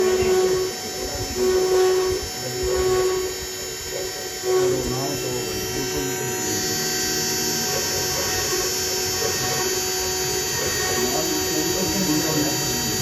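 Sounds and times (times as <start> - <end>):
engraving machine humming and whining: 0.0 - 13.0.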